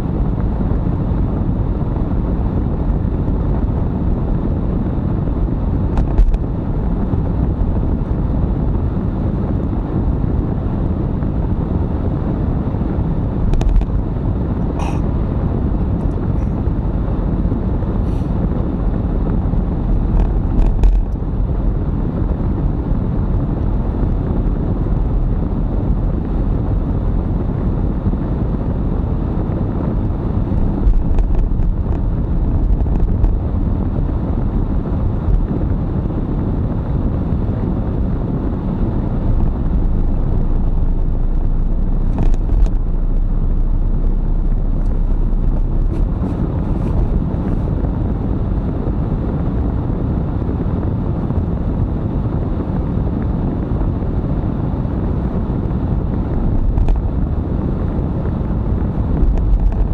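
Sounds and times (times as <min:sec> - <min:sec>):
low rumble of engine and tyres: 0:00.0 - 0:59.9.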